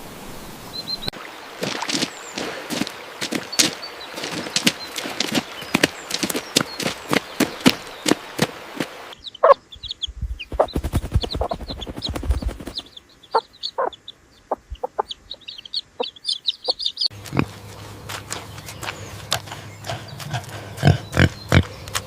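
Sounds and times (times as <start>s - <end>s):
chickens clucking: 1.6s - 22.0s.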